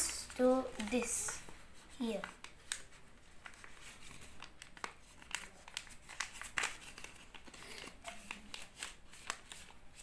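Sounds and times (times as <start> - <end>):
paper crinkling: 0.0 - 10.0.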